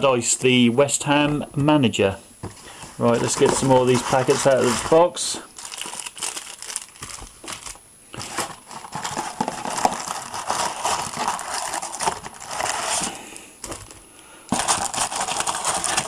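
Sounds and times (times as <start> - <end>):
foil packs crinkling: 2.6 - 16.0.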